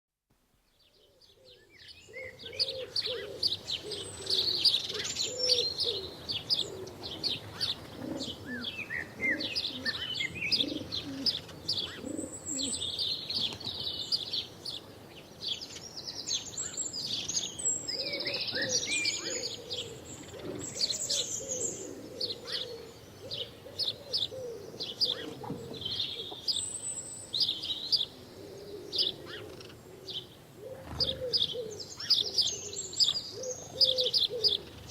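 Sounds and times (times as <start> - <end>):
sparrows chirping: 0.6 - 34.9.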